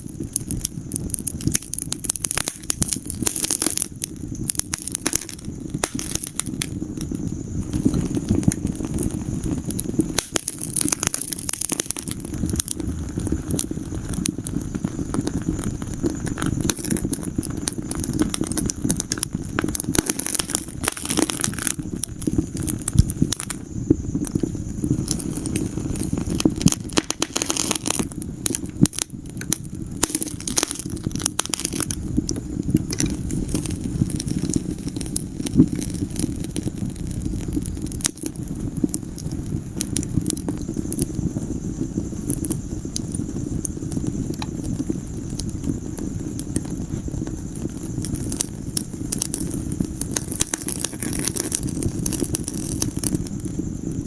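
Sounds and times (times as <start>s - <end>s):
low rumble of burning: 0.0s - 54.0s
wood fire crackling and popping: 0.0s - 54.0s.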